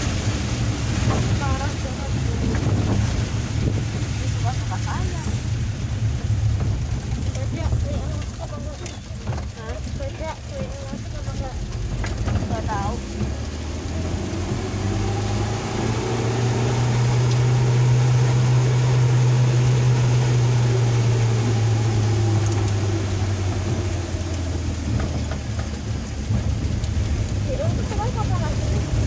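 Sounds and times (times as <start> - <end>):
engine drone from inside cab: 0.0 - 29.0
rain hiss: 0.0 - 29.0
road noise: 0.0 - 29.0.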